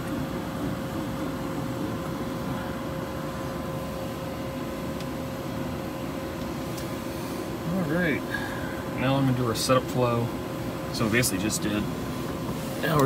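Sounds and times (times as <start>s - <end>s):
auxiliary power unit hum and whine: 0.0s - 13.0s.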